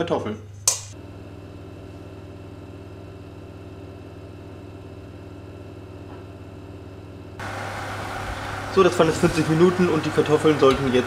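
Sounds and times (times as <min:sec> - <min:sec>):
oven humming: 0:00.6 - 0:11.0.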